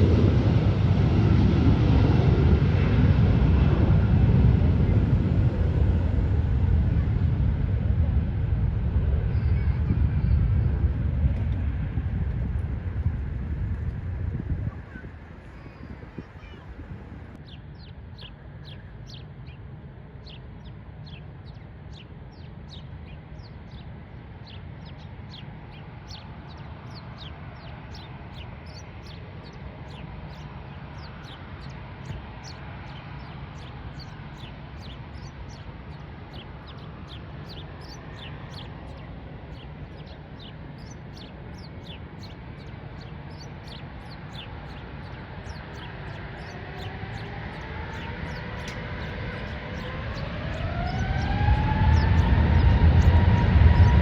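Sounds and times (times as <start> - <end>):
distant airport rumble: 0.0 - 54.0
small birds chirping: 1.0 - 54.0.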